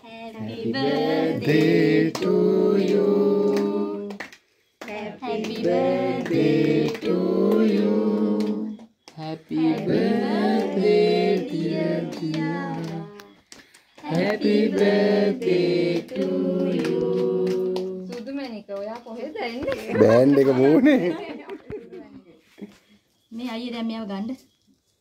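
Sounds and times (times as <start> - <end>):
group singing a birthday song: 0.0 - 18.4, 19.3 - 22.8.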